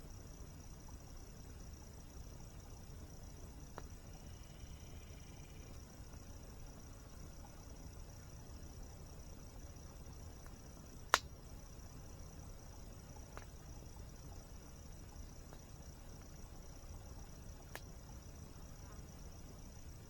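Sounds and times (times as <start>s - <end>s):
campfire crackling: 0.0s - 20.0s
insect drone: 0.0s - 20.0s.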